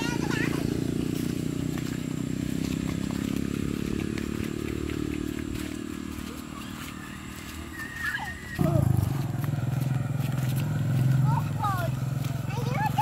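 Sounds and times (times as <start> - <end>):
motorcycle engine running: 0.0 - 7.9, 8.6 - 13.0.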